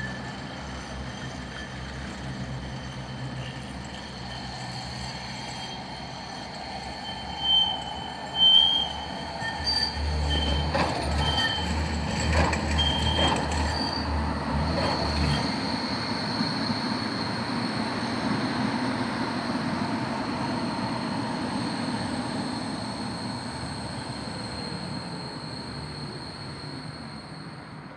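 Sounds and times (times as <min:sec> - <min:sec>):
tram rolling noise: 0:00.0 - 0:27.9
tram wheels squealing on rails: 0:00.0 - 0:27.9.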